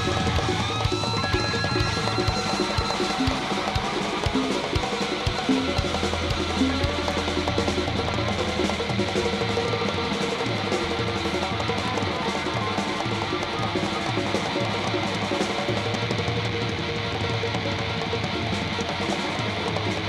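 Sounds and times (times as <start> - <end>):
drum kit: 0.0 - 20.0
electric guitar: 0.0 - 20.0.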